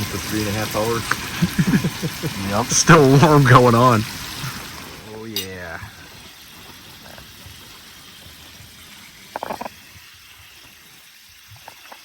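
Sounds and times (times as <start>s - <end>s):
meat sizzling in butter: 0.0s - 12.0s.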